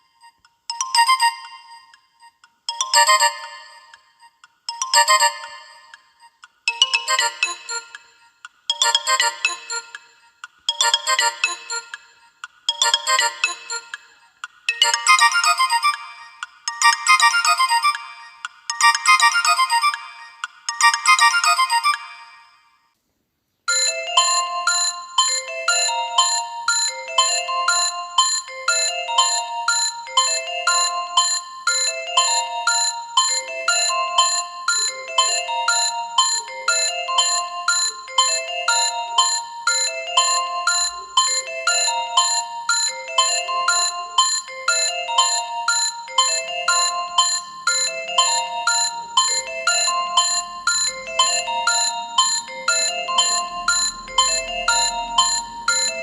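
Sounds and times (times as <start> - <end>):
phone ringtone melody: 0.0 - 2.1, 2.7 - 22.8, 23.7 - 56.0.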